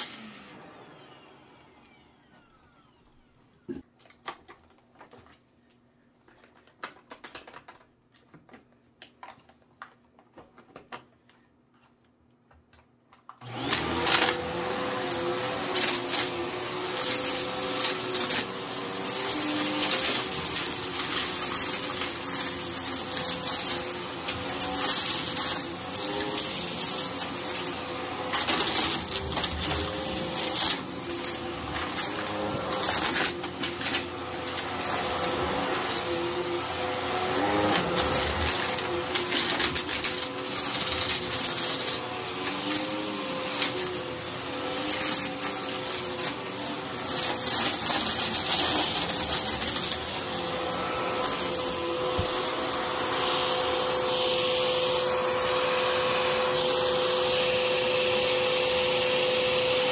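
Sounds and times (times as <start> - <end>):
vacuum cleaner whining: 0.0 - 3.9, 13.3 - 59.9.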